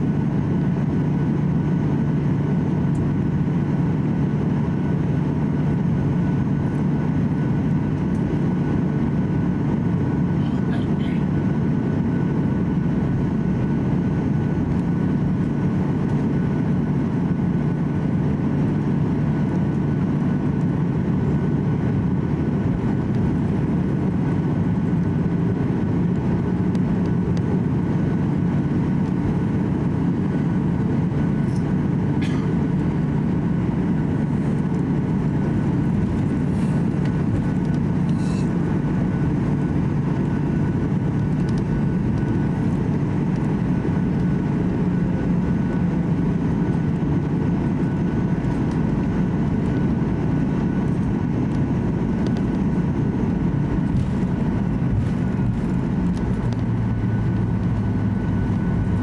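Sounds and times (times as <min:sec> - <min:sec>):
faint steady whine: 0:00.0 - 0:59.0
jet engines idling hum: 0:00.0 - 0:59.0.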